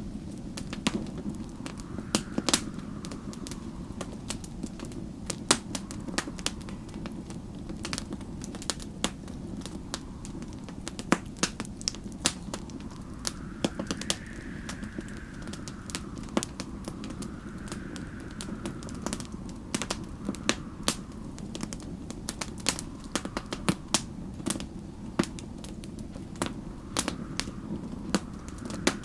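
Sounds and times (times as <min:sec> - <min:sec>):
faint storm wind howling: 0:00.0 - 0:29.0
wood fire crackling and popping: 0:00.0 - 0:29.0.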